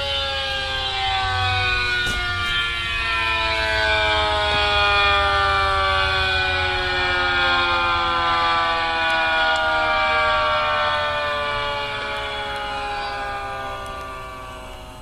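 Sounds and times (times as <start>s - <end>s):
warning sirens: 0.0s - 15.0s.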